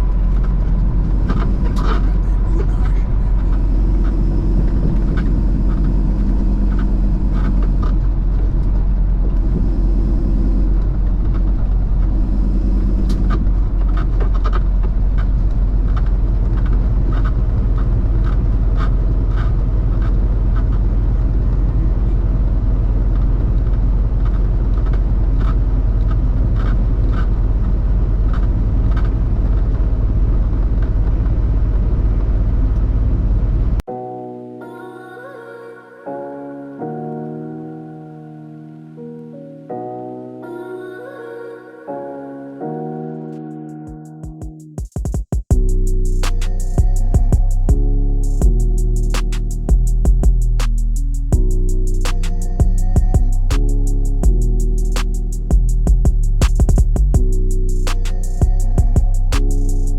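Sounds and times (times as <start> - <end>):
truck engine and road rumble: 0.0 - 33.9, 45.5 - 59.9.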